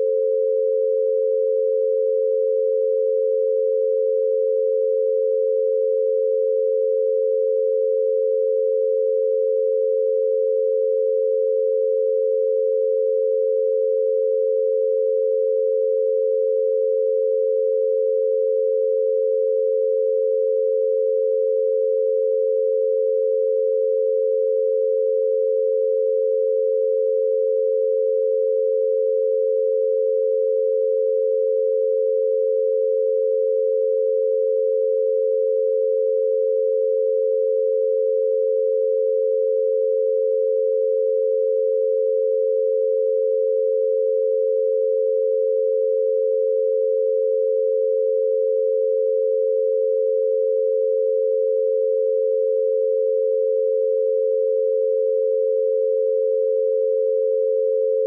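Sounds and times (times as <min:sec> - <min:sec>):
two steady pure tones: 0:00.0 - 0:58.0.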